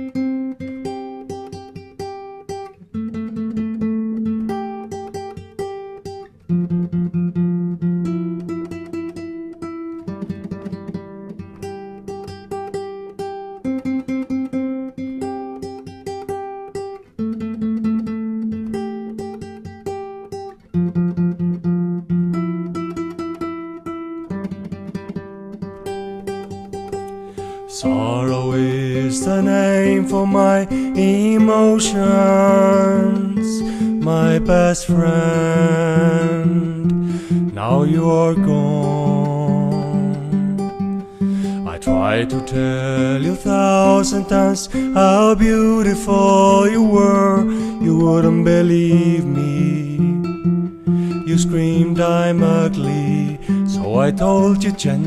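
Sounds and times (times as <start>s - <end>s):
acoustic guitar plucked notes: 0.0s - 55.0s.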